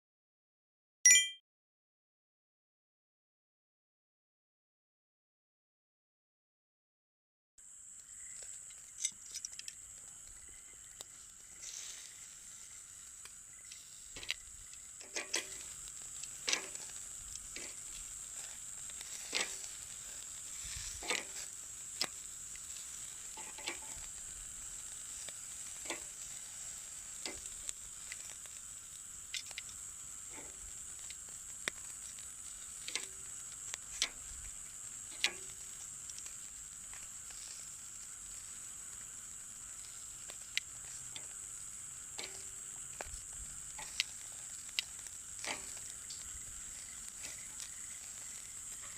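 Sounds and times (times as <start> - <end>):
meat sizzling on a grill: 7.6 - 48.9
campfire popping and crackling: 7.7 - 48.9.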